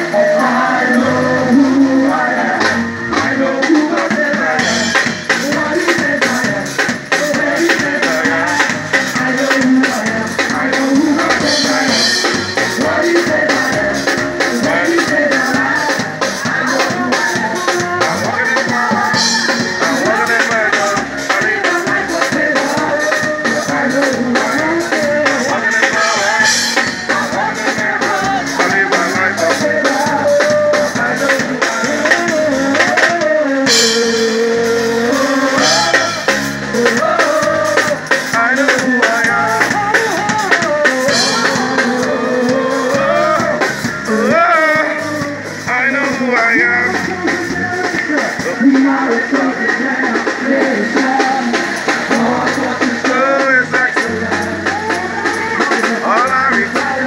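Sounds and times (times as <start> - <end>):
amplified person singing: 0.0 - 57.0
drum kit beat: 0.0 - 57.0.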